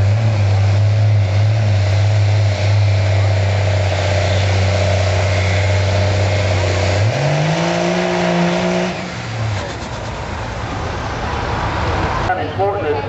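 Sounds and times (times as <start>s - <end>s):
diesel engine revving under load: 0.0s - 12.7s.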